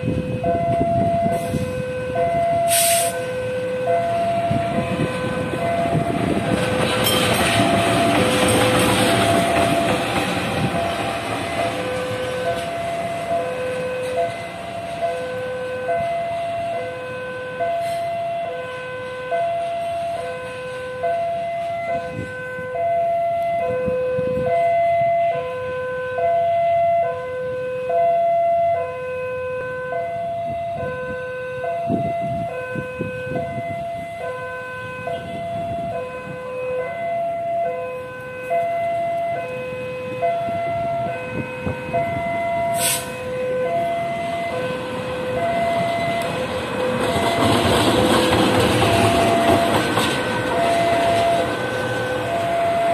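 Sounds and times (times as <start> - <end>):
two-note crossing alarm: 0.0 - 8.4, 9.2 - 46.4
locomotive rumble: 0.0 - 28.7, 29.3 - 52.9.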